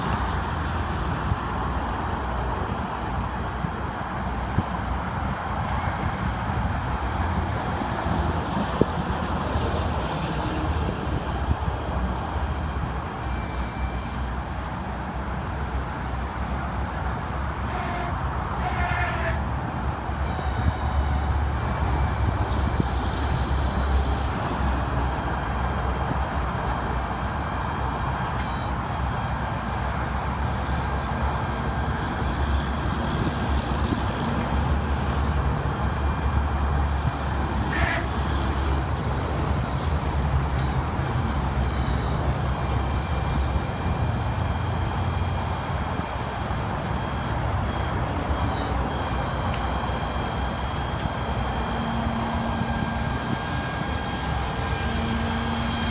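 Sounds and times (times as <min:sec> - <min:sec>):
diesel engine running: 0:00.0 - 0:55.9
high whine: 0:00.0 - 0:55.9.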